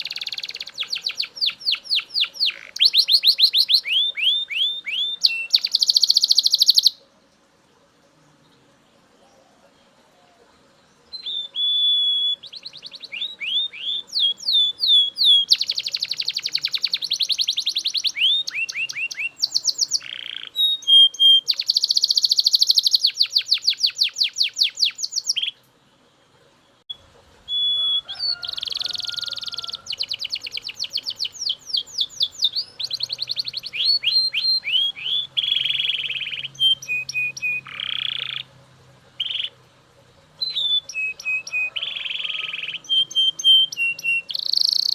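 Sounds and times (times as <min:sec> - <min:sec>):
canary singing fast trills: 0:00.0 - 0:07.2, 0:09.1 - 0:25.6, 0:26.7 - 0:44.9.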